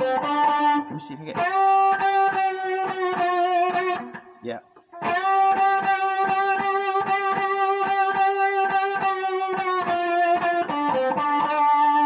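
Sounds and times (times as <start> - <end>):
electric guitar blues lick: 0.0 - 12.0.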